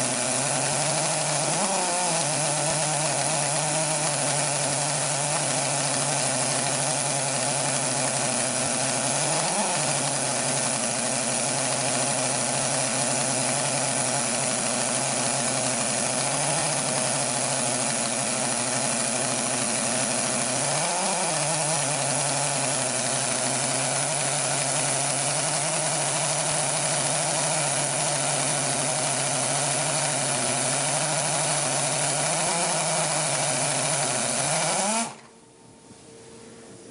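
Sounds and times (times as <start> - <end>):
rotary hammer drill boring into concrete: 0.0 - 35.3.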